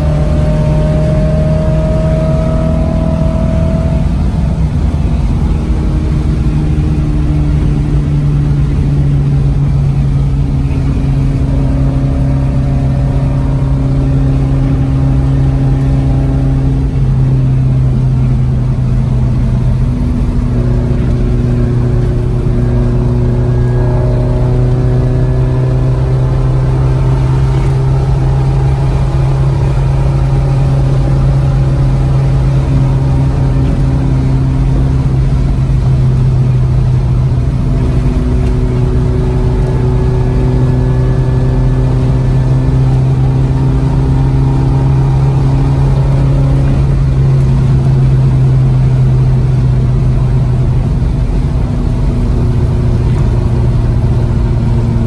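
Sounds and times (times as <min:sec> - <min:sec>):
car engine drone: 0:00.0 - 0:55.0
road noise: 0:00.0 - 0:55.0.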